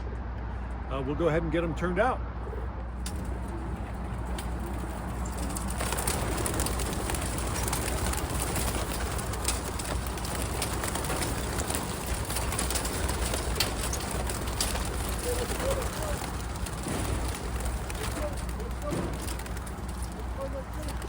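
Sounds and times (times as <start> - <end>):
pigeon wingbeats fluttering: 3.0 - 21.0.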